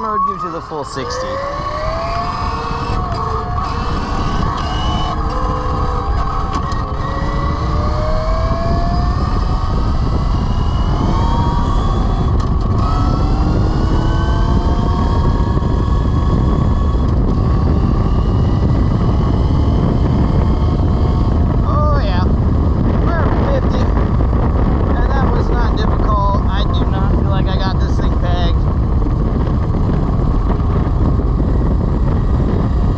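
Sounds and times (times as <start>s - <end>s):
electric motor whining: 0.0s - 32.9s
wind rumble on microphone: 0.0s - 32.9s.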